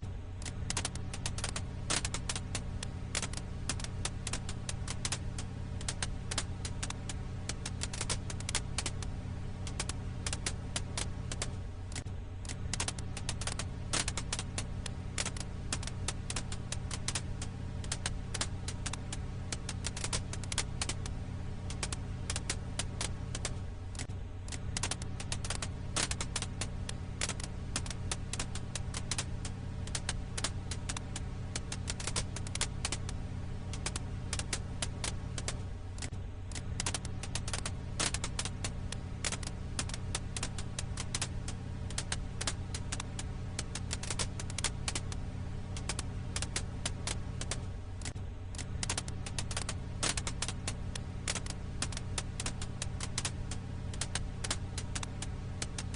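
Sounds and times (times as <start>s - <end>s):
steady low hum: 0.0s - 55.9s
firewood crackling and popping: 0.3s - 55.9s.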